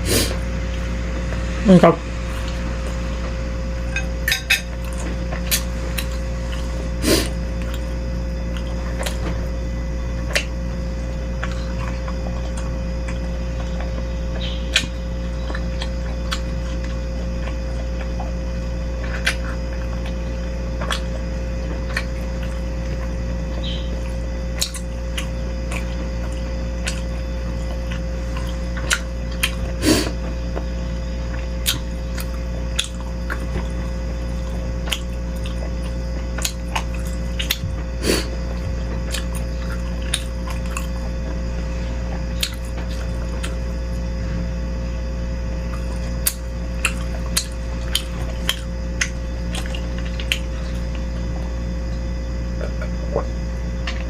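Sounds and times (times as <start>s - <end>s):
steady low hum: 0.0s - 54.0s
chewing and wet mouth sounds: 3.8s - 44.4s, 45.6s - 52.0s.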